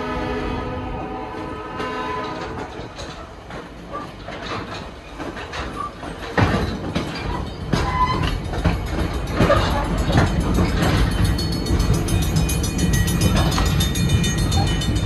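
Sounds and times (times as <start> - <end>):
train wheels rumbling on track: 0.0 - 15.0
wheels knocking over rail joints: 1.8 - 15.0.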